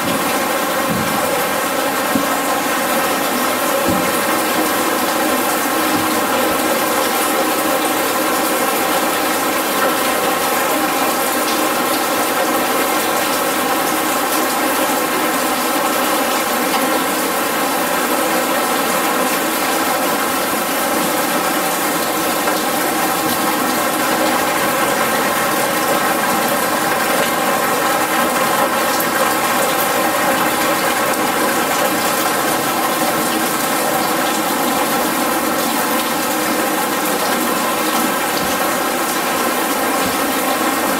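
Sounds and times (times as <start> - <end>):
artificial rain rushing: 0.0 - 40.9.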